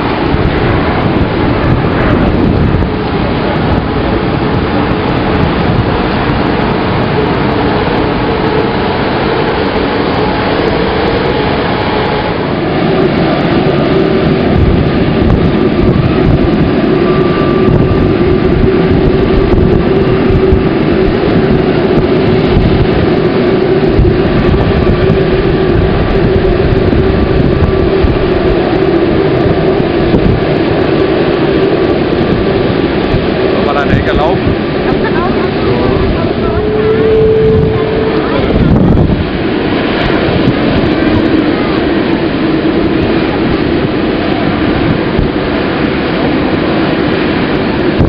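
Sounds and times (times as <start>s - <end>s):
jet engines rumbling and whining: 0.0s - 48.0s.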